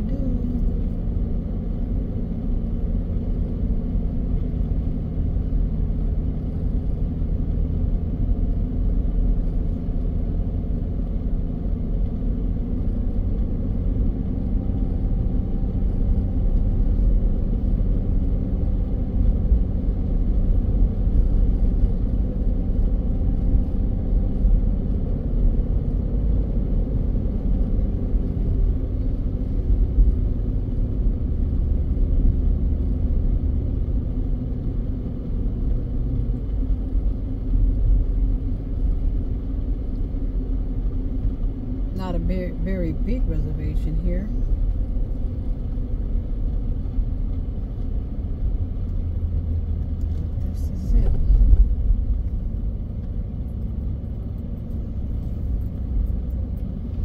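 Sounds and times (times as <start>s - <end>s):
car road rumble: 0.0s - 57.0s
faint engine hum: 0.0s - 57.0s.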